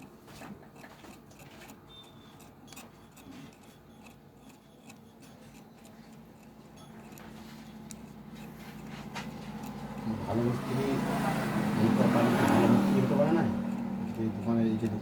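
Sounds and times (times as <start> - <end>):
faint clicks and ticks: 0.0 - 15.0.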